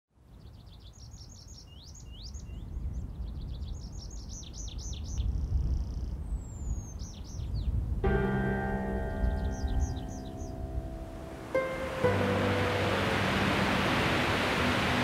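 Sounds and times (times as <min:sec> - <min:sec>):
songbird singing: 0:00.2 - 0:15.0.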